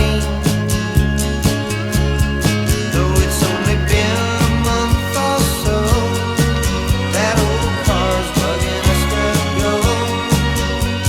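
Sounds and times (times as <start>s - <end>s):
song with sung vocals: 0.0s - 11.0s.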